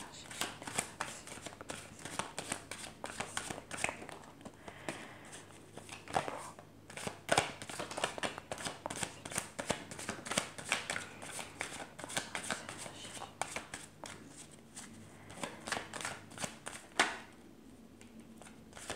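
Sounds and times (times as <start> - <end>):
cards being shuffled by hand: 0.2 - 17.3, 18.0 - 18.9.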